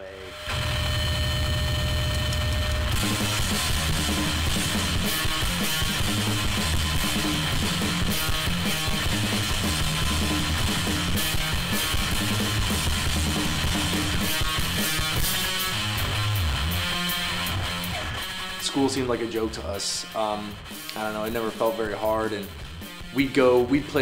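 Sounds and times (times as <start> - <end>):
loud rock music: 0.0 - 24.0.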